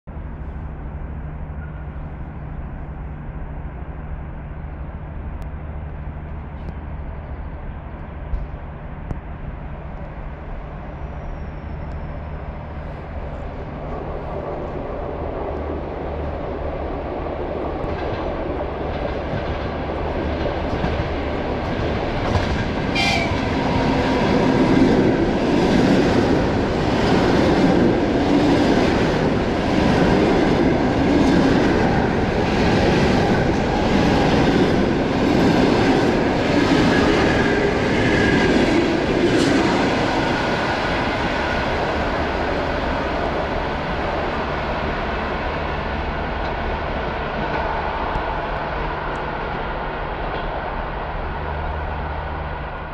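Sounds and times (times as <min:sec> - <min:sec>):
electric train passing: 0:00.1 - 0:52.9.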